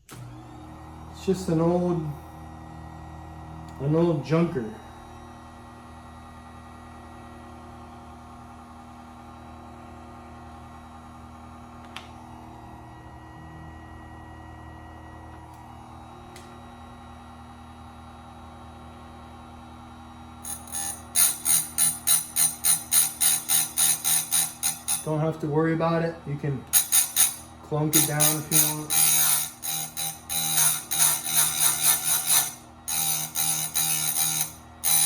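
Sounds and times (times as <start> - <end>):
small electric motor hum: 0.1 - 18.2, 19.9 - 35.0.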